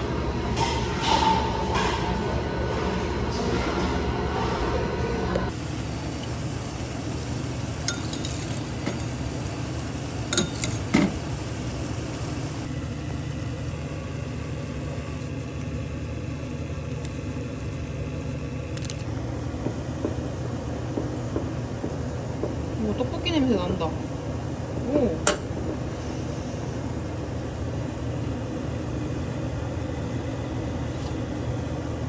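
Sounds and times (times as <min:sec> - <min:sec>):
water boiling in a pan: 0:05.5 - 0:32.0.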